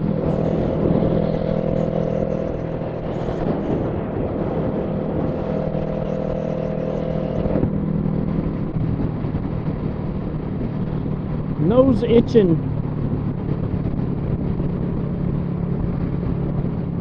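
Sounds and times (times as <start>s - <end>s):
motorcycle engine cruising: 0.0s - 17.0s
wind rush: 0.0s - 17.0s.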